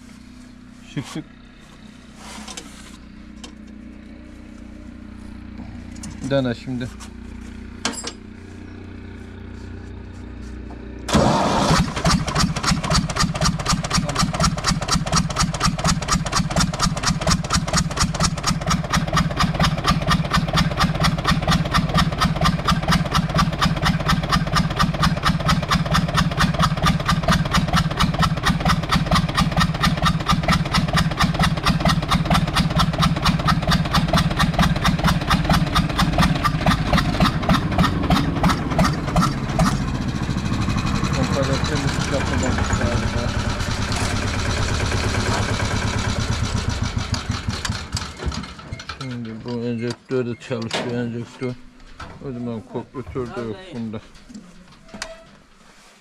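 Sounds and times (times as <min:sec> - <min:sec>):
diesel engine starting and idling: 0:00.0 - 0:49.8.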